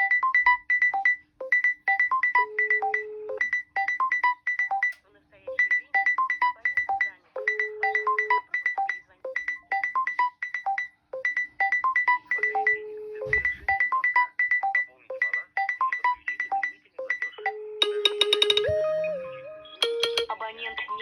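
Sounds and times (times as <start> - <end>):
phone ringtone melody: 0.0 - 4.9, 5.5 - 21.0.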